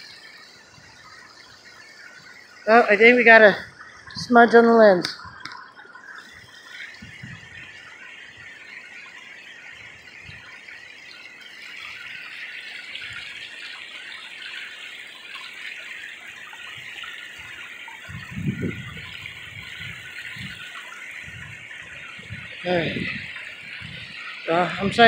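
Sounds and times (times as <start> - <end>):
rushing creek water: 0.0 - 25.0.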